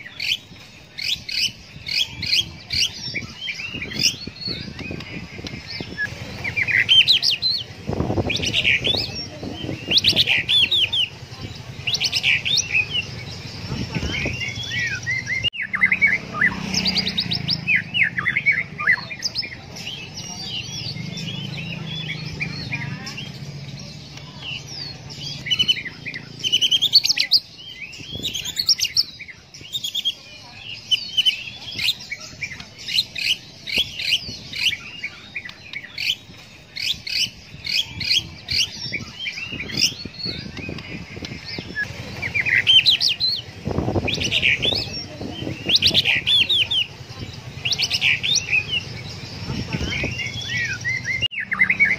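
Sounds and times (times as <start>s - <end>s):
bird singing whistles and trills: 0.0s - 51.9s.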